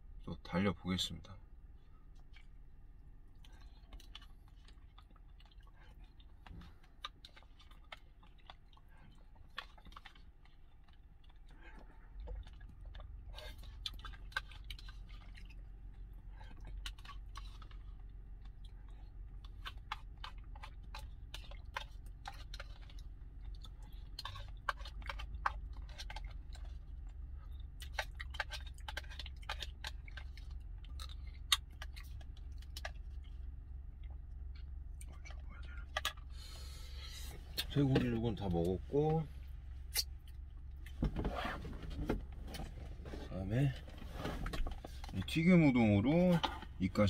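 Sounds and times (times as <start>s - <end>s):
steady low hum: 0.0s - 47.0s
chewing and mouth sounds: 1.8s - 41.4s.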